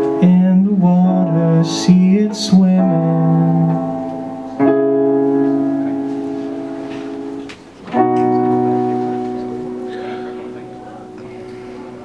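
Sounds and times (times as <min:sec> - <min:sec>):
electronic keyboard chords: 0:00.0 - 0:12.0.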